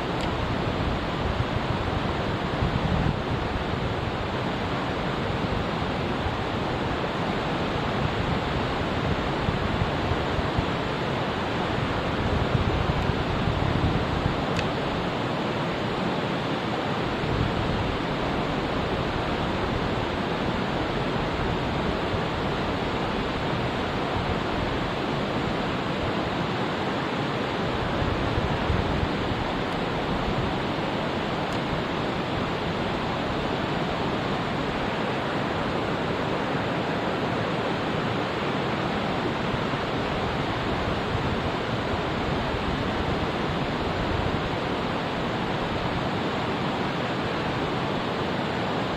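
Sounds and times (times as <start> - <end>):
water rushing over rocks: 0.0 - 48.9.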